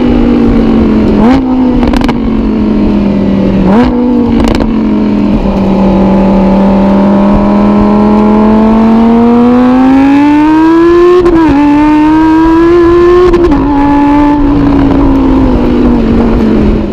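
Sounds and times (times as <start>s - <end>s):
sports car engine revving: 0.0s - 16.9s.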